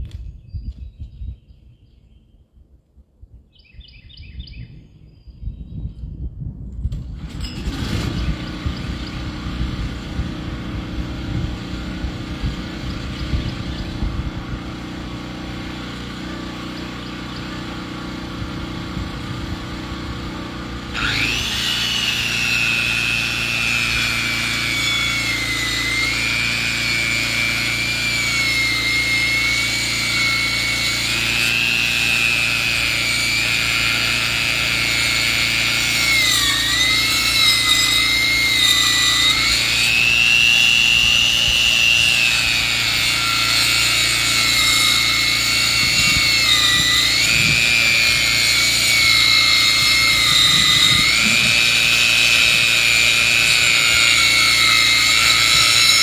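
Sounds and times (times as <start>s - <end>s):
saw whining through log: 7.0s - 56.0s
sawmill engine running: 7.1s - 56.0s.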